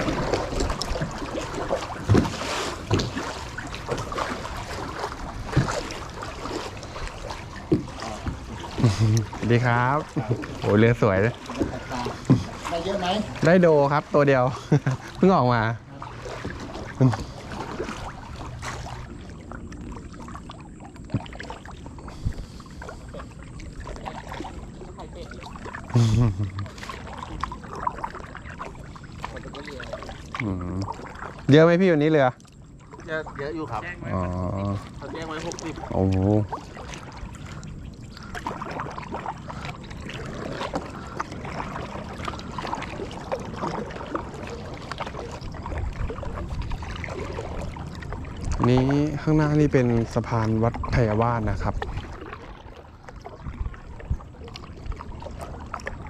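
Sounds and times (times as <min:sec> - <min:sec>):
paddle dipping and water splashing: 0:00.0 - 0:56.0.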